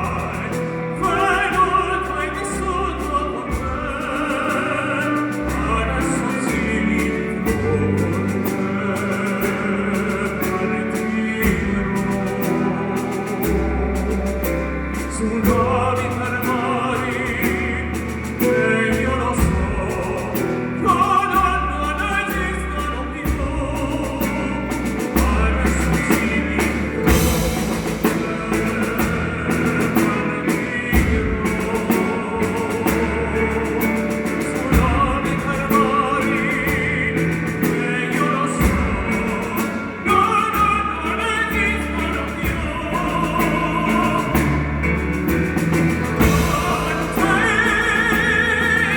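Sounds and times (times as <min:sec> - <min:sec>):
bass line: 0:00.0 - 0:48.9
drum kit: 0:00.0 - 0:48.9
person singing: 0:00.0 - 0:48.9.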